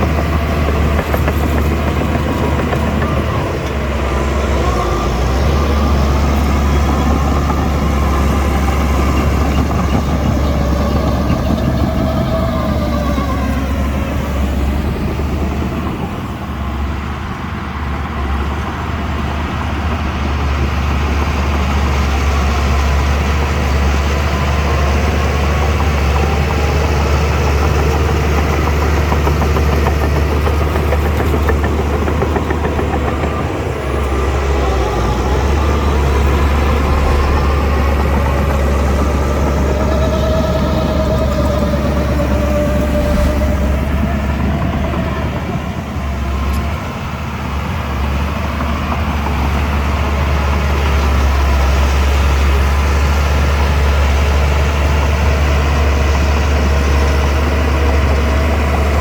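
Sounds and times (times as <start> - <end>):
bulldozer diesel engine rumbling: 0.0 - 59.0
faint engine whine: 0.0 - 59.0.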